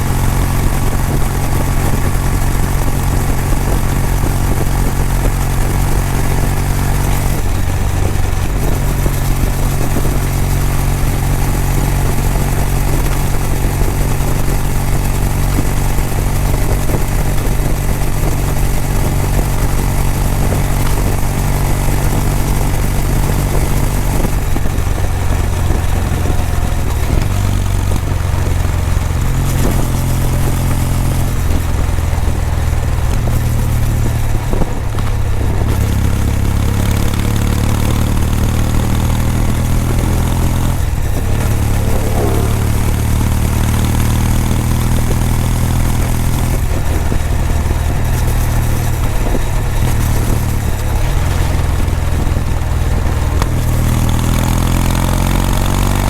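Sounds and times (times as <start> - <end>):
motorcycle exhaust while riding: 0.0 - 56.0.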